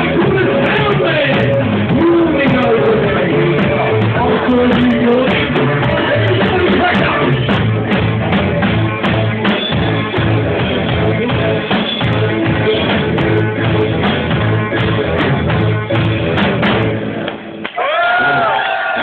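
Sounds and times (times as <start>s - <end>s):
live rock band playing: 0.0s - 18.4s.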